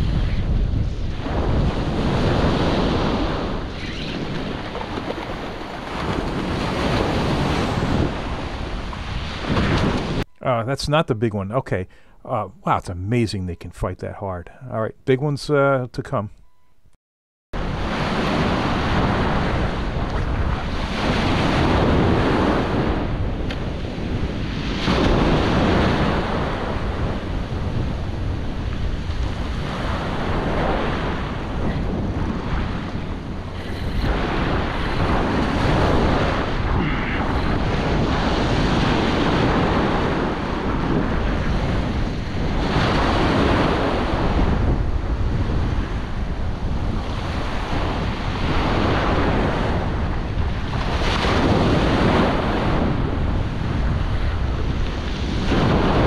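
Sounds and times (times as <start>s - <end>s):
wind buffeting microphone: 0.0s - 10.2s, 17.6s - 56.0s
ocean surf breaking: 0.0s - 13.3s, 17.6s - 56.0s.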